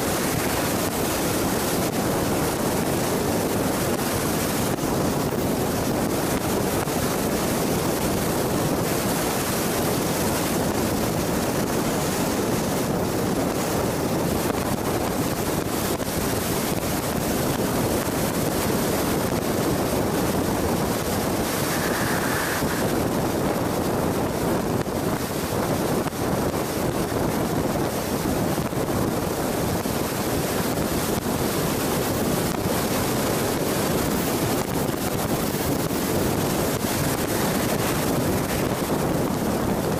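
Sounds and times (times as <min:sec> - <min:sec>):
road and wind noise: 0:00.0 - 0:39.9.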